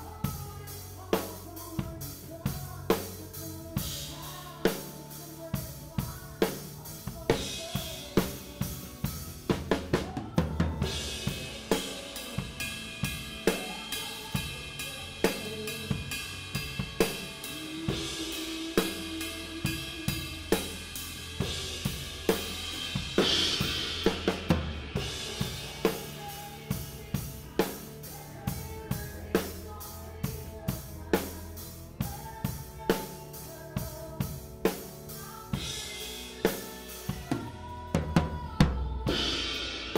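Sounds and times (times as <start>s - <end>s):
band backing: 0.0s - 39.9s
drum kit playing slow groove: 0.0s - 39.9s.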